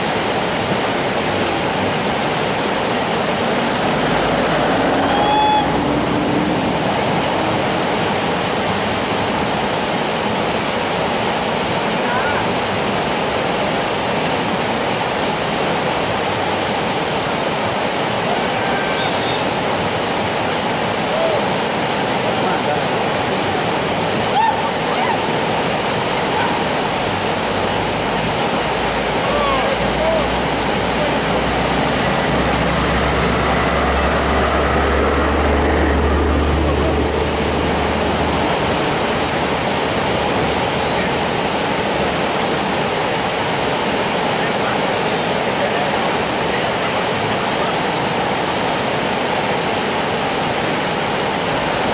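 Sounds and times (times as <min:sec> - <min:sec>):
river whitewater roaring: 0:00.0 - 0:51.9.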